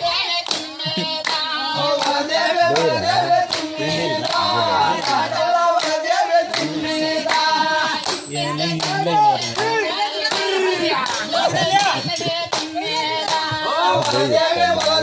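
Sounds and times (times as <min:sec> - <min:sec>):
group of people singing: 0:00.0 - 0:15.0
hands clapping: 0:00.1 - 0:15.0.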